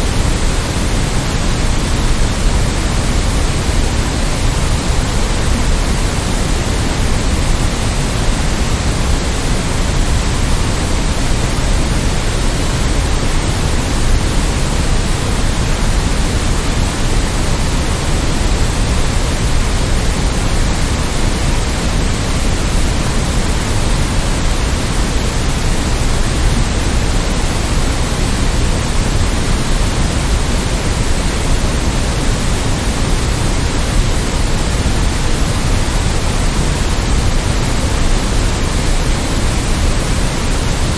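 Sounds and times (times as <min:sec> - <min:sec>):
steady low hiss: 0:00.0 - 0:40.9.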